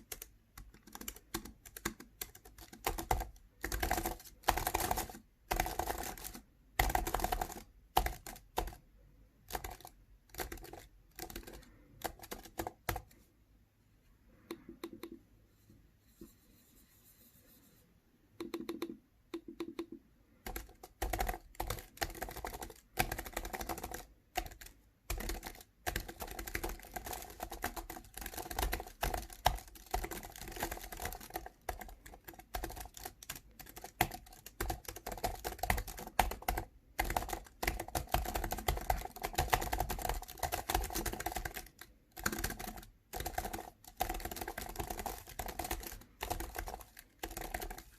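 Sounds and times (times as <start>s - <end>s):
computer keyboard typing: 0.0s - 13.2s, 14.4s - 15.2s, 18.4s - 47.9s.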